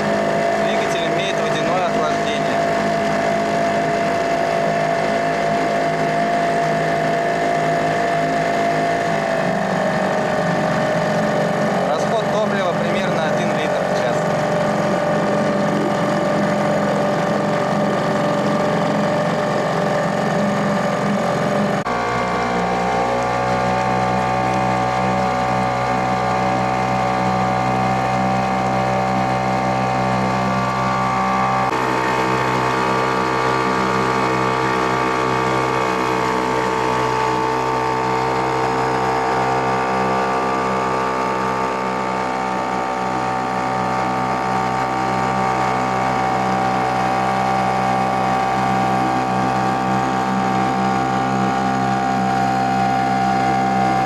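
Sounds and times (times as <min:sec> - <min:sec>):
outboard motor running: 0:00.0 - 0:54.0
water washing along boat: 0:00.0 - 0:54.0.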